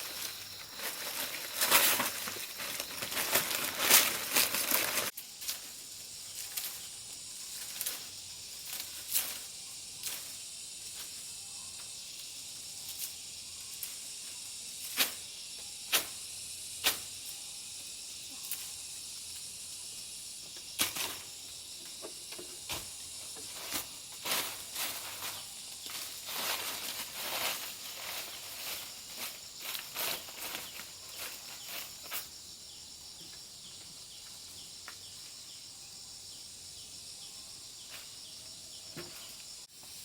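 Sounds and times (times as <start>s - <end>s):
steady high hiss: 0.0s - 40.0s.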